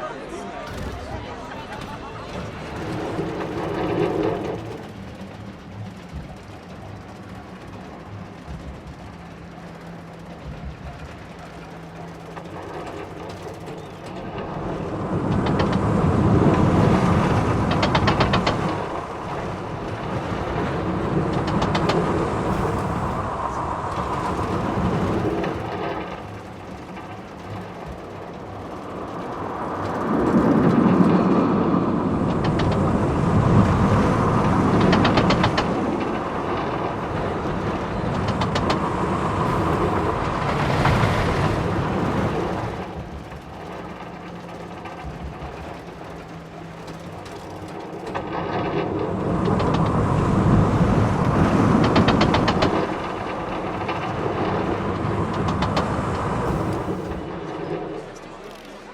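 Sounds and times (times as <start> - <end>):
roller coaster wheels rumbling: 0.0 - 58.9
rapid clicking: 0.6 - 58.9.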